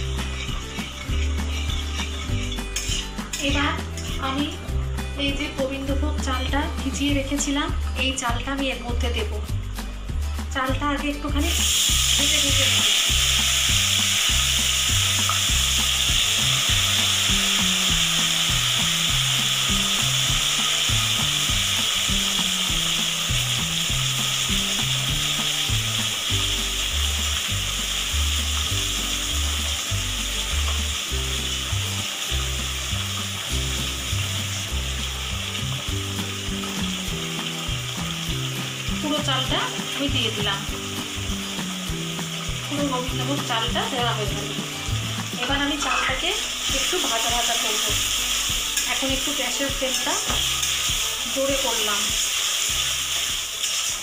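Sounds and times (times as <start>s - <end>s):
rice sizzling in hot oil: 0.0s - 10.5s, 11.2s - 54.0s.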